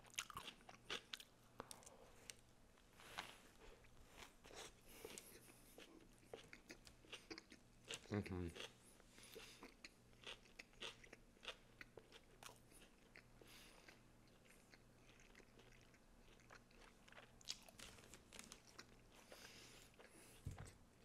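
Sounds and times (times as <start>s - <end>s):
chewing sandwich: 0.0s - 2.4s, 3.0s - 21.0s.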